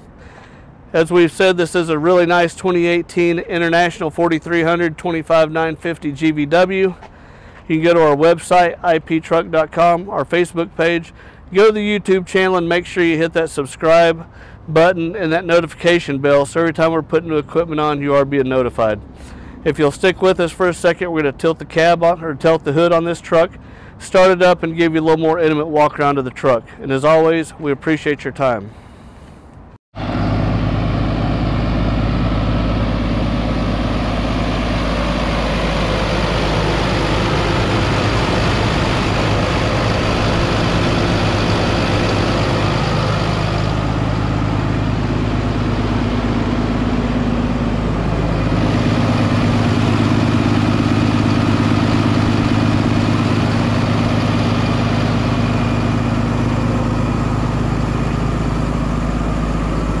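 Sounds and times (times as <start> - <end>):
diesel truck engine idling: 0.0 - 25.2, 30.0 - 60.0.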